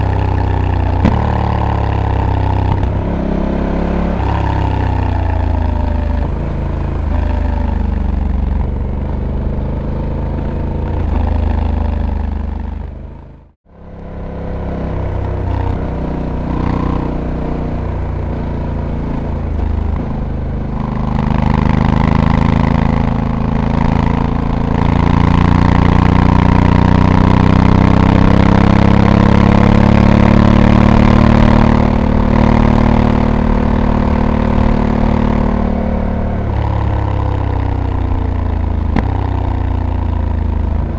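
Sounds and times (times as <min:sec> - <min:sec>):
motorcycle engine running under load: 0:00.0 - 0:40.9.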